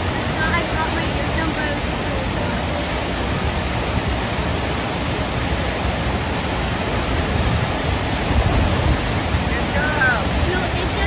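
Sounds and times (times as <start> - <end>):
rushing pumped water: 0.0 - 11.0.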